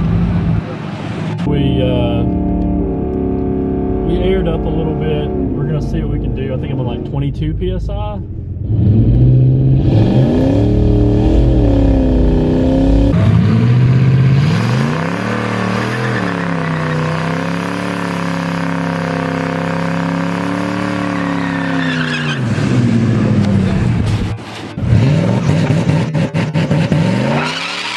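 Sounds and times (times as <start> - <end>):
drag car engine at full throttle: 0.0 - 27.9.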